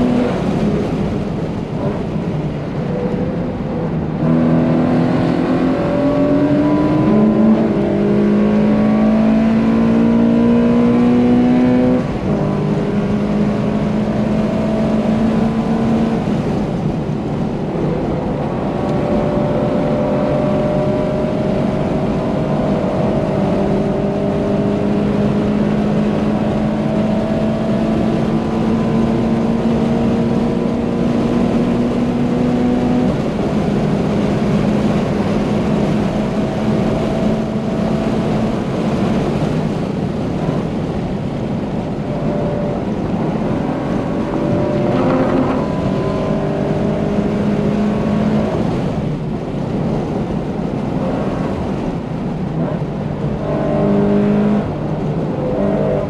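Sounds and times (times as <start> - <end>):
car engine revving at high rpm: 0.0 - 56.0
wind noise: 0.0 - 56.0.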